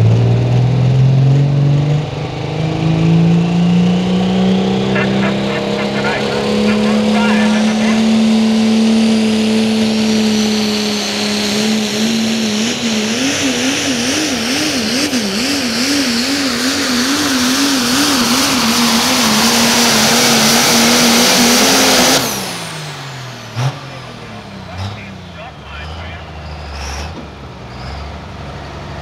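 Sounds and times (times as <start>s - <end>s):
diesel truck engine at full power: 0.0s - 29.0s.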